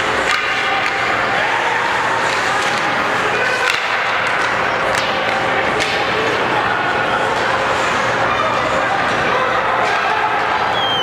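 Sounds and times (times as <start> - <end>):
hockey sticks and puck clacking: 0.0 - 10.7
murmur of crowd voices: 0.0 - 11.0.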